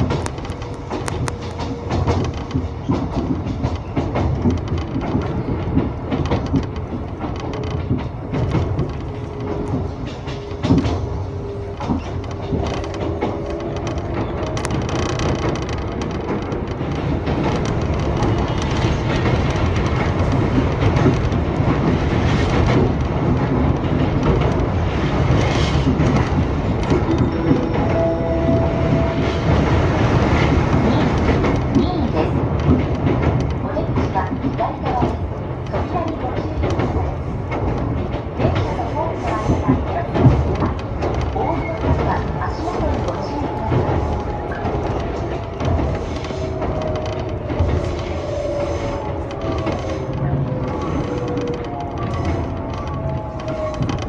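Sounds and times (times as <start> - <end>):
clacks and rattles: 0.0 - 54.0
train wheels rumbling on rail: 0.0 - 54.0.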